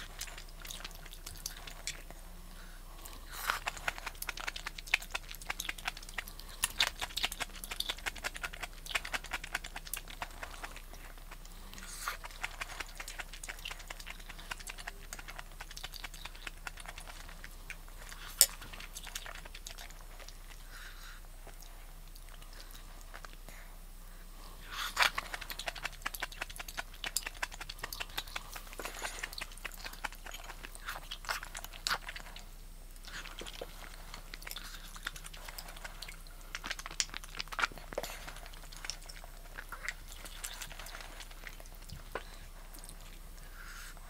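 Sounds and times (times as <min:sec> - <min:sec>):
person chewing and crunching: 0:00.0 - 0:23.7, 0:24.6 - 0:44.0.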